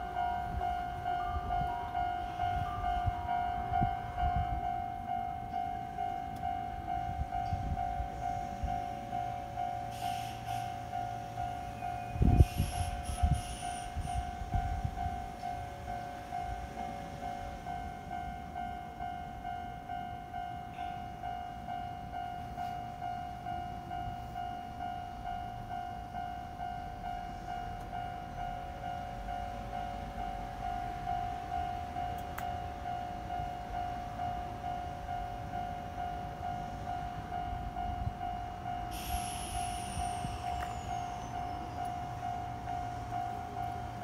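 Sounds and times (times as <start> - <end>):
level-crossing alarm dinging: 0.0 - 44.0.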